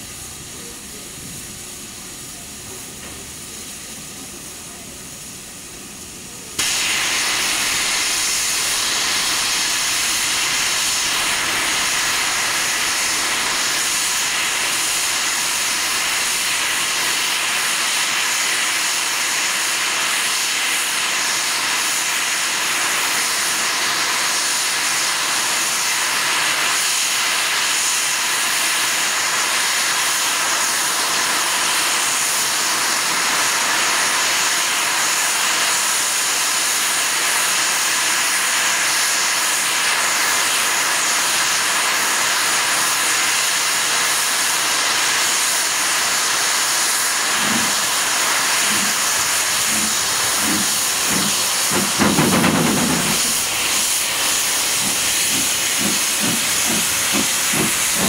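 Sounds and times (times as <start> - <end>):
steam safety valve hissing: 0.0 - 58.0.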